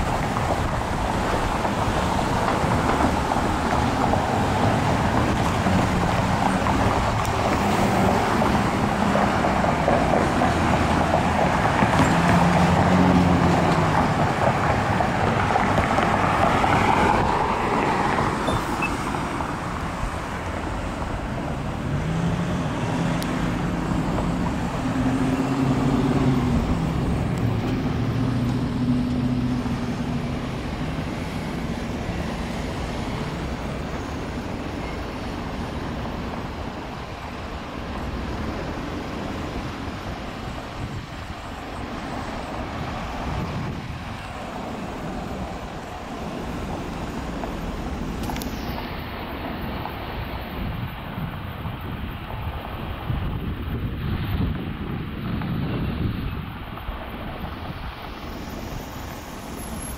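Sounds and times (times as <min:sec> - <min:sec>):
cars driving by: 0:00.0 - 0:59.9.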